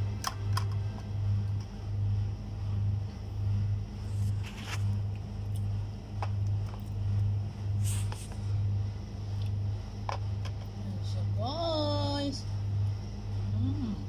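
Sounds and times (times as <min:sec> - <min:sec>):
pulsing low hum: 0:00.0 - 0:14.0.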